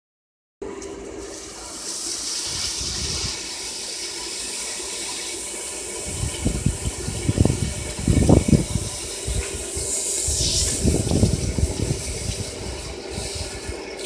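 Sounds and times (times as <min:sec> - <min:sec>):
water hissing and bubbling: 0:01.2 - 0:14.0.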